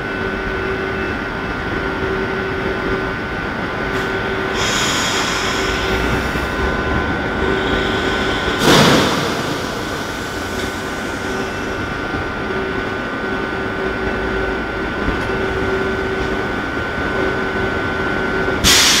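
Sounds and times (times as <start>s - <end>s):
thin high whine: 0.0s - 19.0s
train equipment humming: 0.0s - 19.0s.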